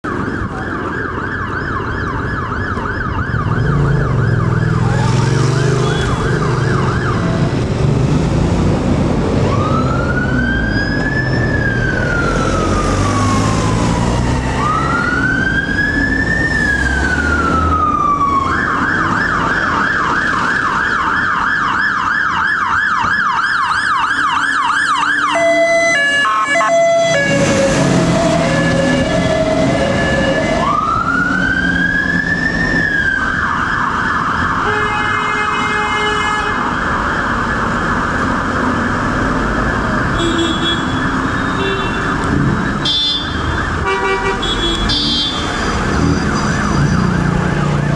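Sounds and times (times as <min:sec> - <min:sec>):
fire engine siren: 0:00.0 - 0:47.9
low engine and traffic rumble: 0:00.0 - 0:47.9.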